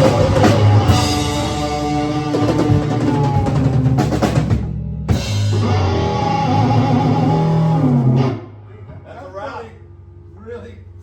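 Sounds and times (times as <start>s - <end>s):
rock band playing: 0.0s - 9.2s.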